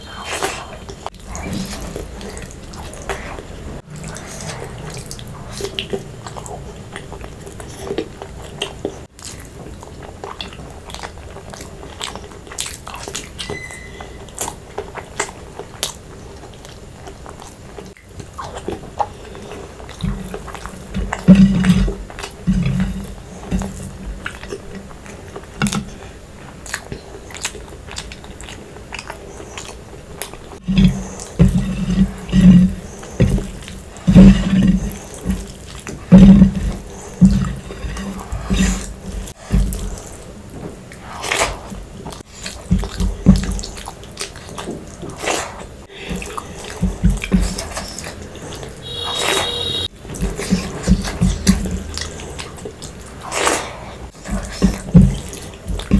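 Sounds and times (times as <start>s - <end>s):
person chewing wetly: 0.0s - 13.5s, 14.1s - 55.9s
low chewing thumps: 0.2s - 13.6s, 14.2s - 55.9s.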